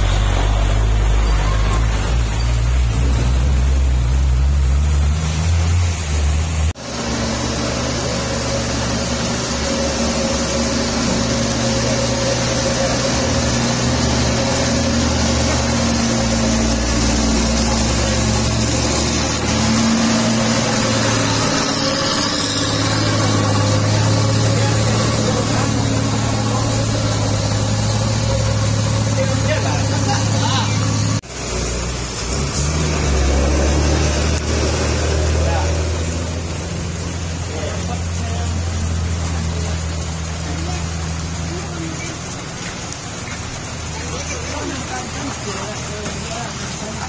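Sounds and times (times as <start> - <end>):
truck diesel engines labouring: 0.0 - 47.0
hiss from wet road: 0.1 - 47.0.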